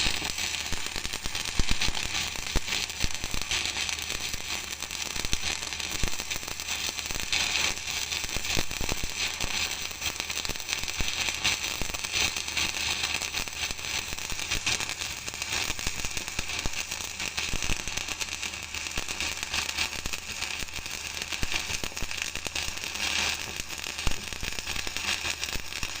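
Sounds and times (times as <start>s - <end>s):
welding arc crackling: 0.0s - 26.0s.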